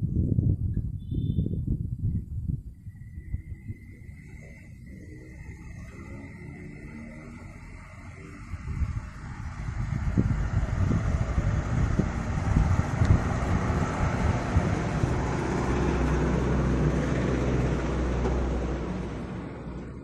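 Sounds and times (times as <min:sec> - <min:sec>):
road and wind noise: 0:00.0 - 0:20.0
vehicle engine running: 0:03.2 - 0:20.0.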